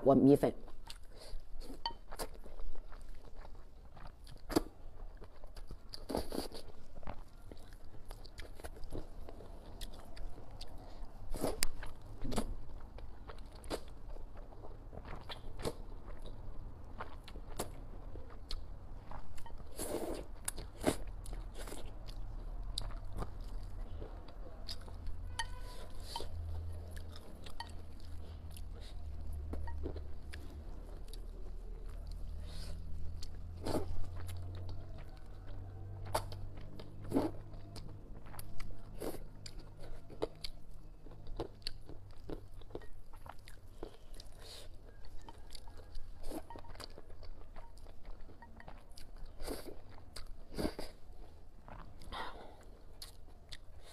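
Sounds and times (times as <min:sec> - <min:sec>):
person chewing: 0:00.6 - 0:53.9.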